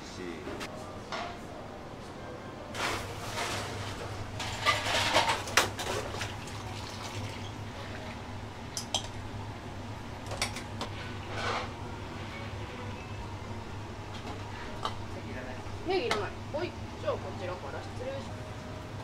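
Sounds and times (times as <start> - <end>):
kitchen equipment humming: 2.6 - 19.0.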